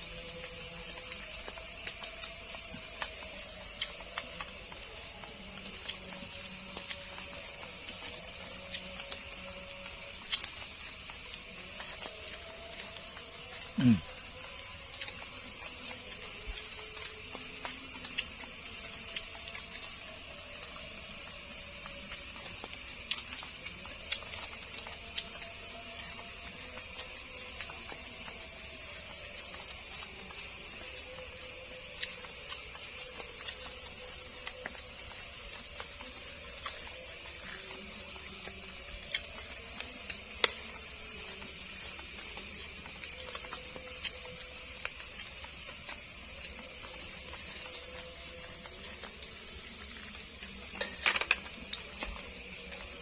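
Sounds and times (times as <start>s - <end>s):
night insects chorus: 0.0s - 53.0s
eating utensils clicking: 0.2s - 53.0s.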